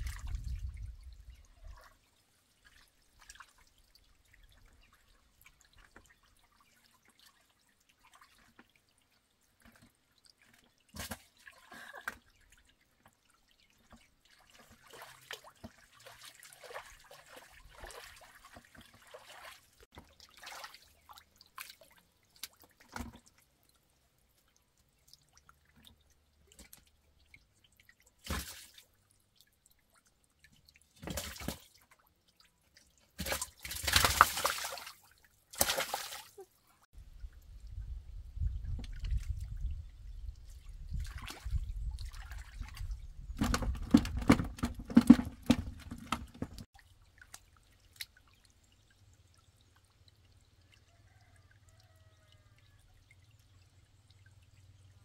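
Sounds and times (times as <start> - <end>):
water splashing and dripping: 0.0 - 36.6, 37.2 - 55.0.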